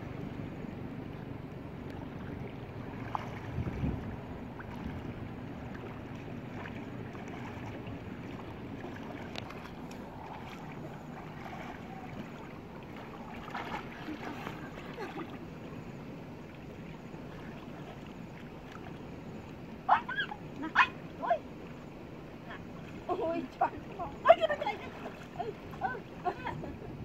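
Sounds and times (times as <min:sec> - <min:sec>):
wind rumble on microphone: 0:00.0 - 0:27.0
faint small splashes: 0:01.1 - 0:15.8, 0:16.4 - 0:26.6.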